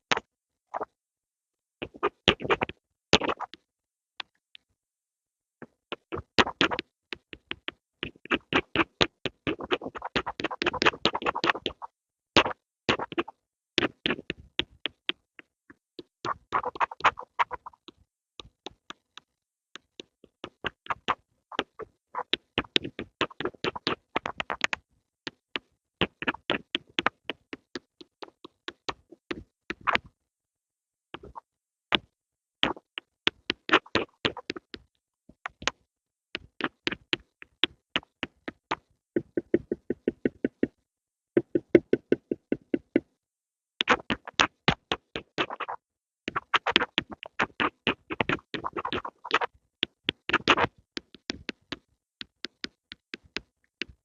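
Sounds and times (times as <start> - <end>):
pencil scratching and tapping: 5.6 - 30.2, 31.2 - 43.2, 43.8 - 54.0.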